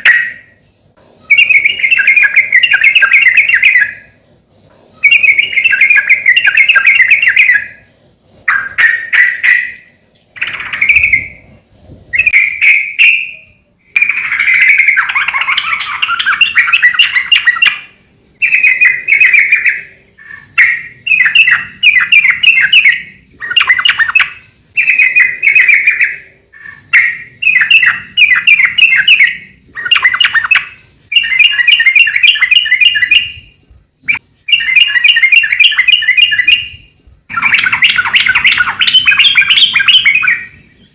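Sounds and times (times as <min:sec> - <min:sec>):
bulbul singing warbling phrases: 0:01.3 - 0:04.2, 0:05.0 - 0:07.9, 0:12.2 - 0:40.9.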